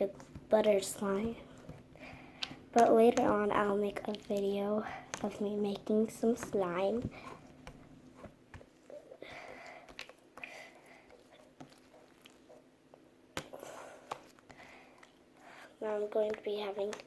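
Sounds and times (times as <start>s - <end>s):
sticky slime squelching: 0.0s - 17.0s.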